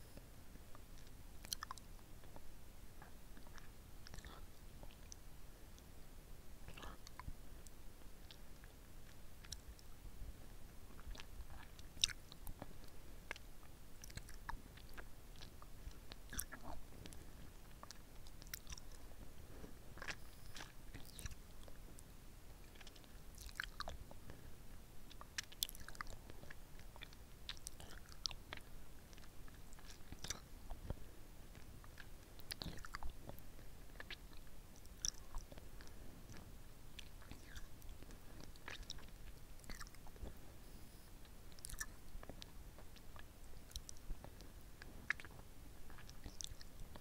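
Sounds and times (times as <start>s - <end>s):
microphone hiss: 0.0s - 47.0s.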